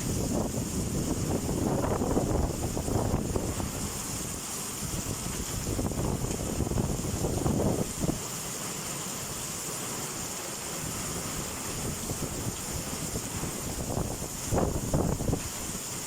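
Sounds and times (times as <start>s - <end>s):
wind buffeting microphone: 0.0s - 8.3s, 10.8s - 16.0s
hiss of storm rain: 0.0s - 16.0s.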